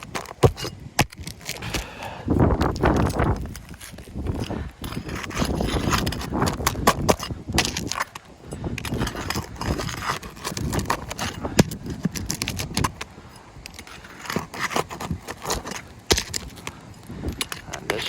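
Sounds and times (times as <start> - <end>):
hand tools clinking on roof shingle: 0.0 - 18.0.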